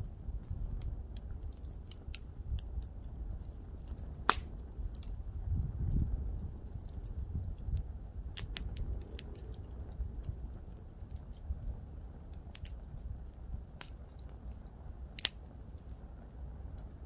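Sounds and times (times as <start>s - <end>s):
campfire crackling: 0.0s - 17.0s
low rumble: 0.0s - 17.0s.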